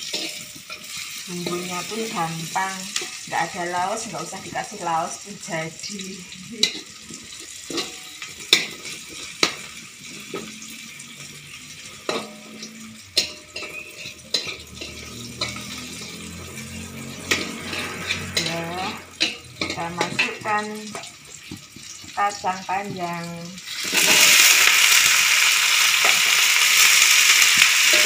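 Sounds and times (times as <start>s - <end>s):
food sizzling in oil: 0.0s - 28.0s
metal spatula scraping wok: 0.0s - 28.0s.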